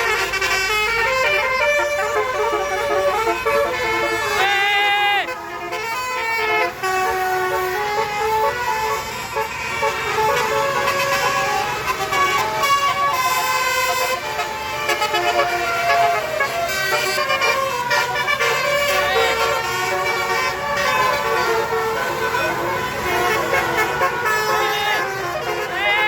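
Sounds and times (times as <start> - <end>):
musical bus horn playing tune: 0.0 - 26.0.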